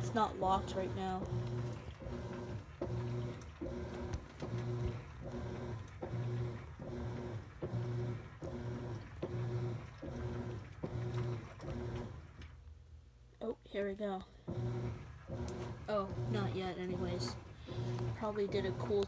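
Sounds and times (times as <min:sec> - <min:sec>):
washing machine motor humming: 0:00.0 - 0:13.0, 0:13.8 - 0:19.0.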